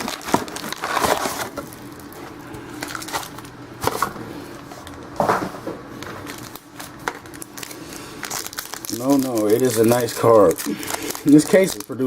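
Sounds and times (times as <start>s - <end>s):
cards and wrappers rustling: 0.0s - 4.1s, 6.0s - 12.0s
faint steady hum: 0.0s - 12.0s.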